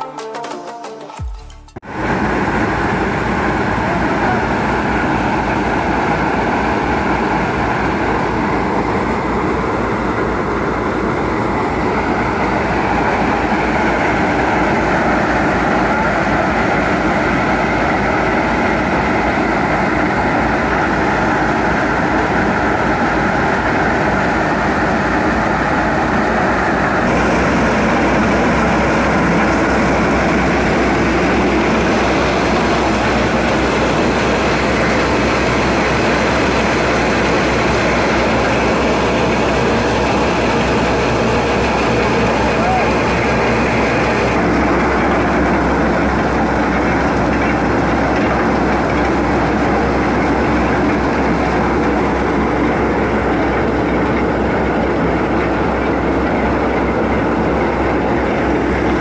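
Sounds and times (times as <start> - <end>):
maize sheller running: 1.2 - 59.0
tractor diesel engine: 1.2 - 59.0.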